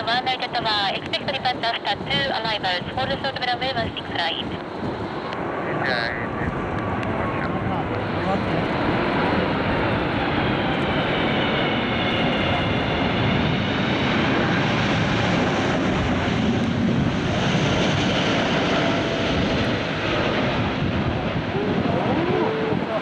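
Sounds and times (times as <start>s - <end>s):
jet engine rush: 0.0s - 23.0s.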